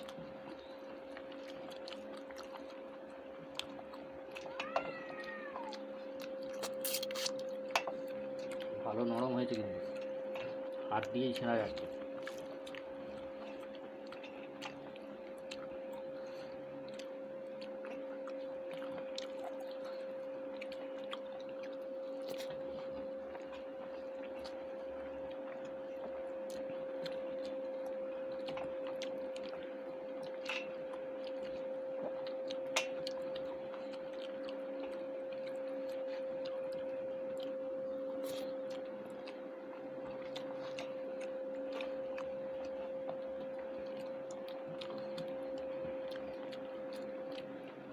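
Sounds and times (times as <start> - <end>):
person chewing food: 0.0 - 47.9
steady hum: 0.0 - 47.9.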